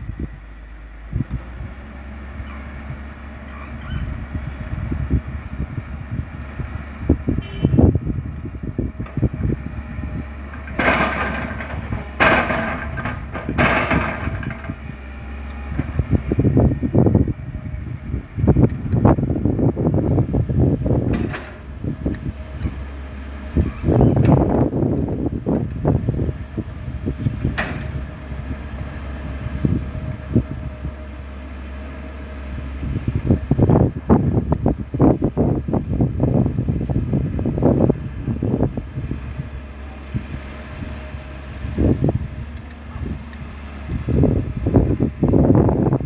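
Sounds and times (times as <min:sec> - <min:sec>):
diesel engine running: 0:00.0 - 0:46.0
wind buffeting microphone: 0:00.0 - 0:46.0.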